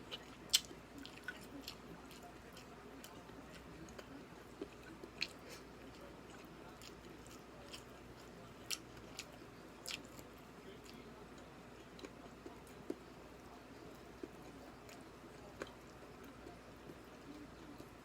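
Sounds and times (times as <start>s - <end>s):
person chewing and eating: 0.0s - 13.1s, 14.0s - 18.0s.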